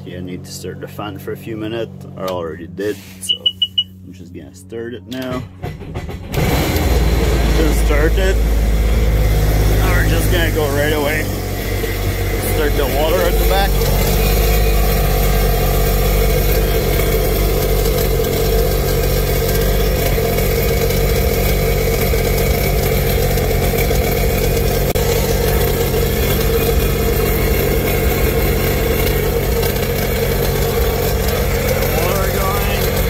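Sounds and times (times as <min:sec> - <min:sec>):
watercraft engine idling: 0:05.5 - 0:33.0.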